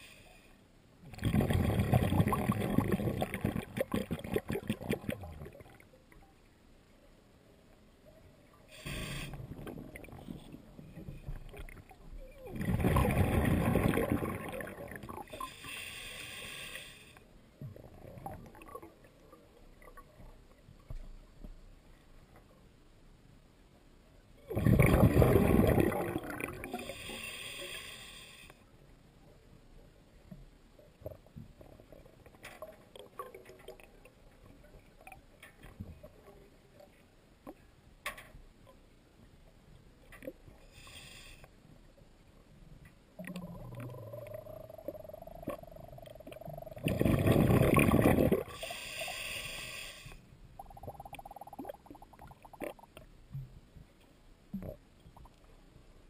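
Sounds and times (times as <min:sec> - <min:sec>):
faint underwater clicks and ticks: 0:00.0 - 0:56.0.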